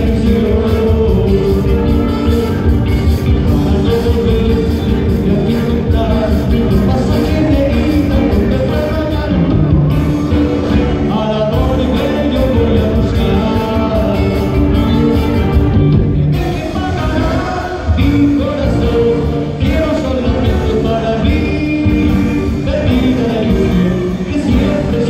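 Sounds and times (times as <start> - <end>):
man singing into microphone: 0.0 - 15.5, 16.2 - 25.0
electric guitar: 0.0 - 25.0
live band music: 0.0 - 25.0.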